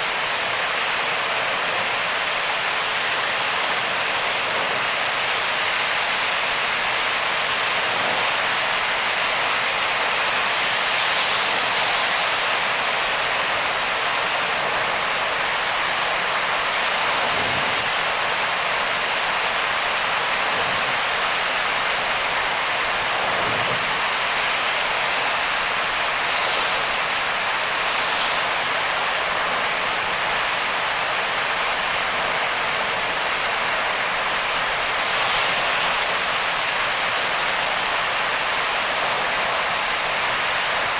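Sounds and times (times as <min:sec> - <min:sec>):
heavy rain: 0:00.0 - 0:40.9
tyre spray on wet road: 0:05.4 - 0:40.9.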